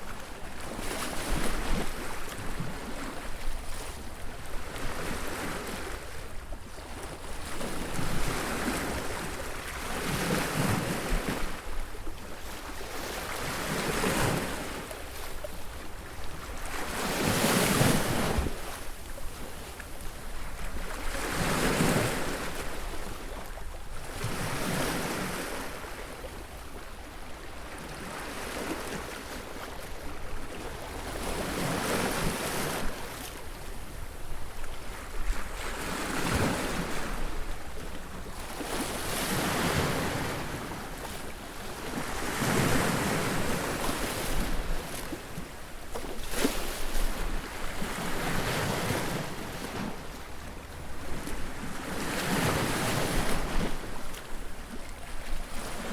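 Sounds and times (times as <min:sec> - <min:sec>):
waves breaking on beach: 0:00.0 - 0:55.9.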